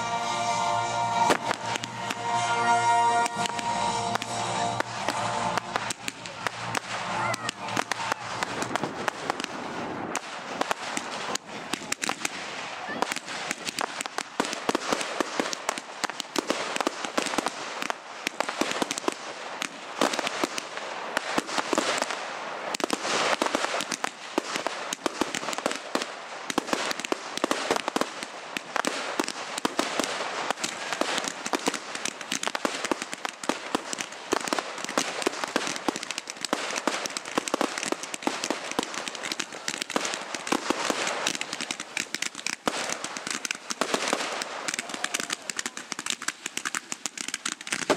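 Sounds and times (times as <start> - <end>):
fireworks crackling and popping: 0.0 - 47.9.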